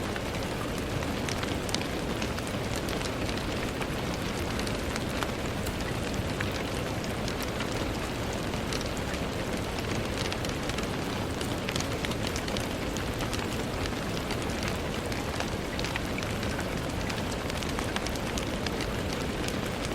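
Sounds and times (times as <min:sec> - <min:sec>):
rain on a window: 0:00.0 - 0:19.9
raindrops ticking on glass: 0:00.0 - 0:19.9.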